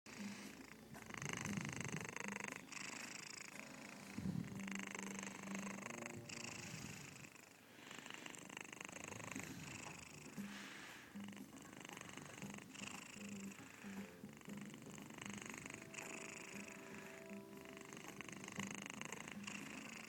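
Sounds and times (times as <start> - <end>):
kitten purring and snoring: 0.1 - 20.0.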